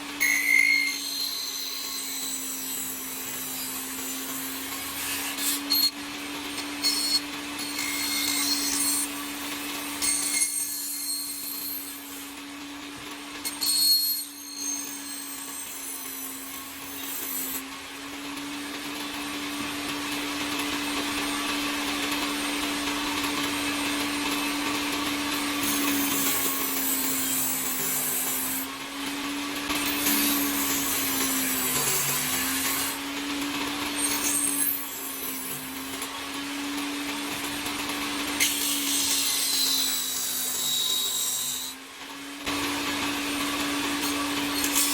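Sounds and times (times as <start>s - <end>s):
scratchy wood cutting: 0.0s - 17.7s, 19.4s - 41.8s, 42.4s - 44.9s
power tool humming: 0.0s - 44.9s.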